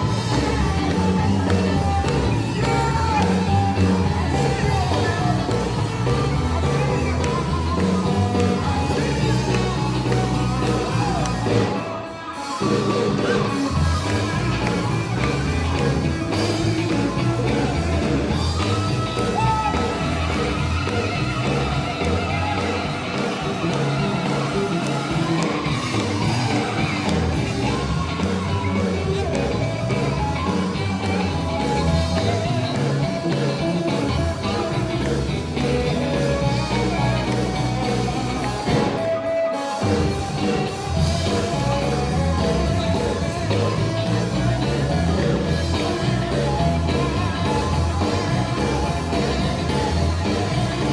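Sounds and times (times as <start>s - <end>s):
gospel band playing: 0.0s - 50.9s
person singing: 0.0s - 50.9s
steel guitar: 0.0s - 50.9s.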